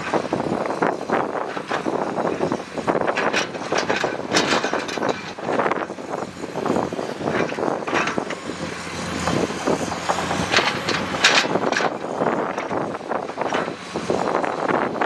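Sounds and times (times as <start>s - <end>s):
clatter and scraping of dirt: 0.0s - 15.0s
heavy diesel engines running: 0.0s - 15.0s.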